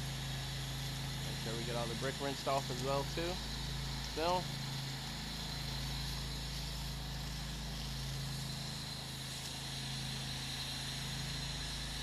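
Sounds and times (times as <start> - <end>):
pressure washer engine running: 0.0 - 12.0
water spraying hiss: 0.0 - 12.0.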